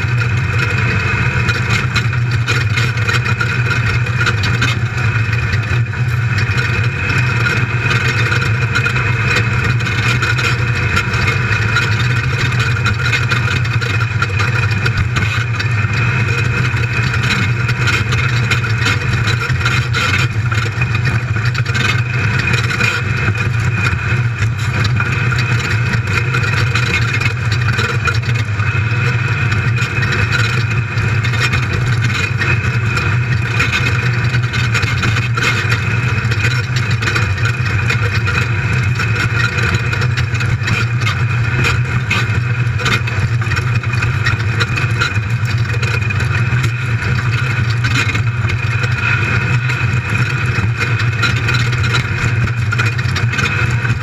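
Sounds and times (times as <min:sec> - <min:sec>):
chassis knocks and rattles: 0:00.0 - 0:54.0
engine running hard: 0:00.0 - 0:54.0.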